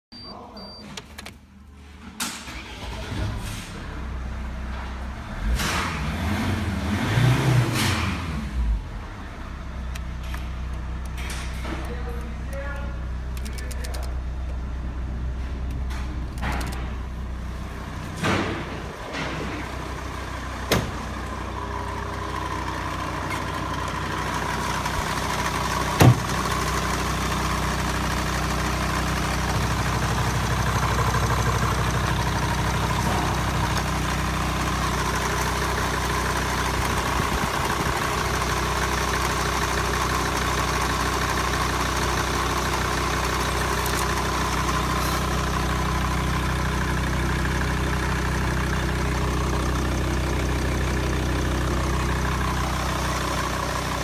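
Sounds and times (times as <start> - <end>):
diesel engine idling: 8.3 - 54.0.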